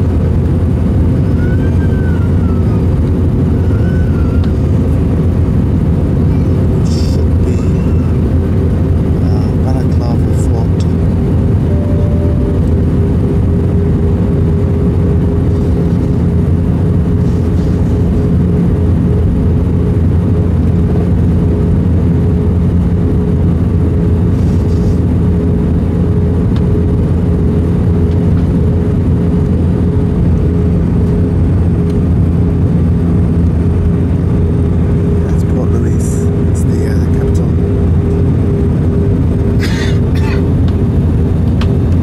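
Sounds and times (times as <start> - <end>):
aircraft cabin engine drone: 0.0 - 42.0.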